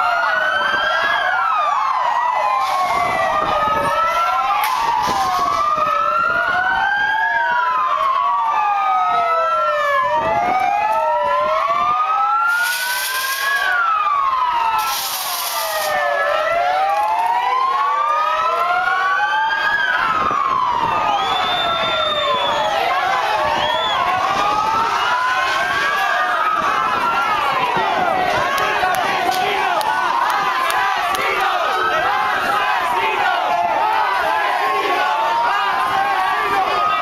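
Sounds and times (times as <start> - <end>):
police sirens wailing: 0.0 - 37.0.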